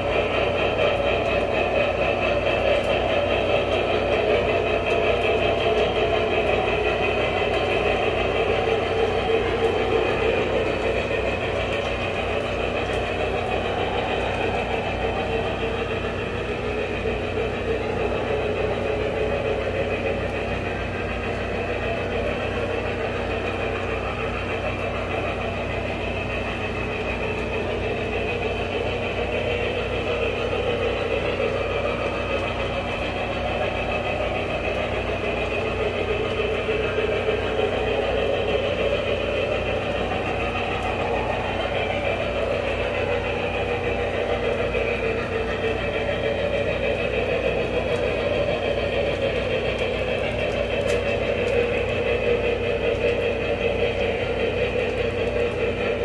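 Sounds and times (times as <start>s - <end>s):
constant low hum: 0.0s - 56.0s
model train rumbling on track: 0.0s - 56.0s.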